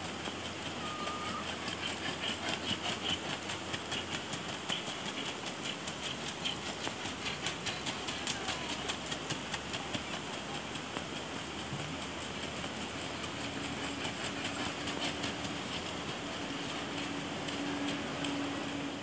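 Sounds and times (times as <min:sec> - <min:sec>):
horse hooves on gravel: 0:00.2 - 0:18.8.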